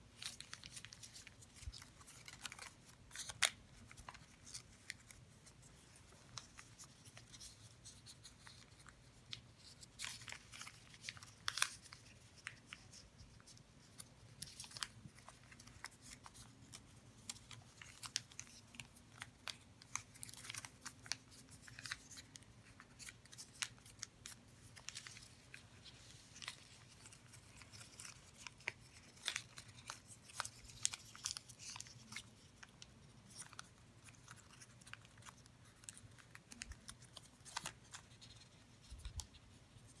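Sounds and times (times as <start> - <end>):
paper being folded: 0.0 - 40.0.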